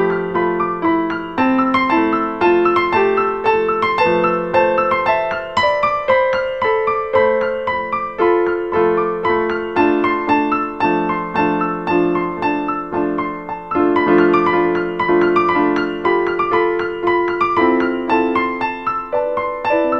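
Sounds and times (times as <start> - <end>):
piano music: 0.0 - 19.9.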